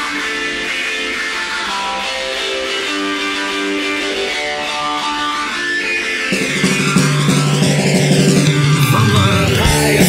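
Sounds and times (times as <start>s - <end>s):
plucked guitar: 0.0s - 10.0s
rock music: 0.0s - 10.0s.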